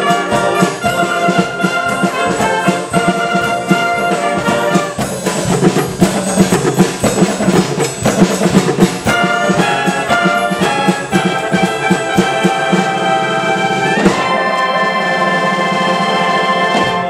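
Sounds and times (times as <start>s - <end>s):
percussion beat: 0.0s - 17.0s
wind band playing mambo: 0.0s - 17.0s.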